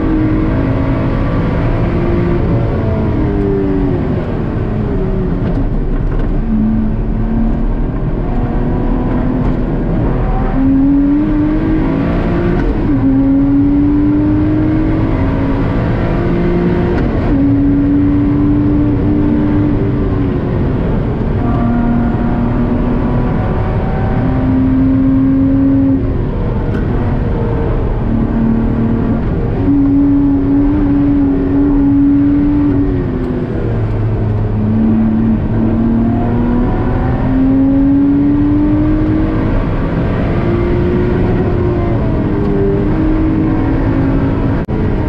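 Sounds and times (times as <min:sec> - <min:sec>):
car engine at full throttle: 0:00.0 - 0:45.0.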